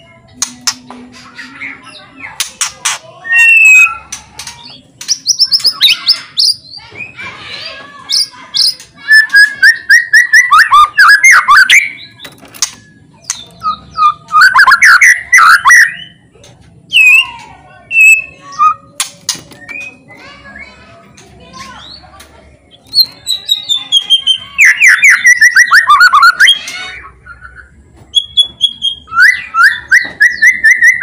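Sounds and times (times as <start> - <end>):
songbird singing whistles and trills: 1.5 - 7.2, 8.1 - 16.2, 16.9 - 20.8, 22.7 - 31.0.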